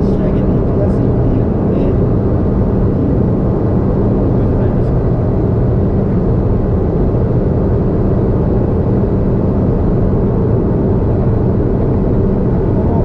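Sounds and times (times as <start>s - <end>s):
in-cabin road and engine noise: 0.0s - 13.0s.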